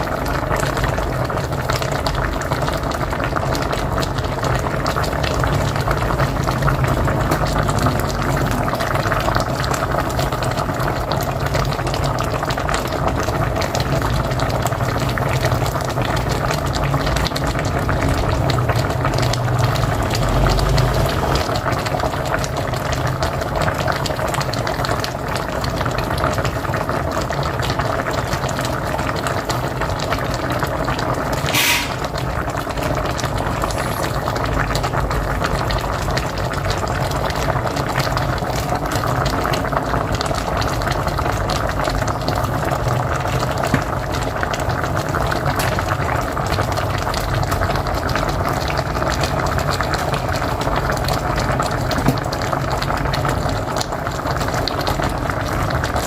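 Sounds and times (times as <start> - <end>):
pot boiling and bubbling: 0.0 - 56.0.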